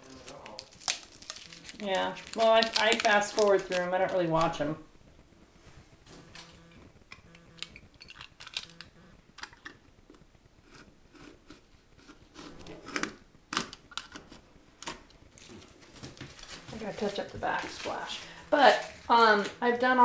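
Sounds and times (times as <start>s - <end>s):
tape scratching and crackling: 0.0s - 20.0s.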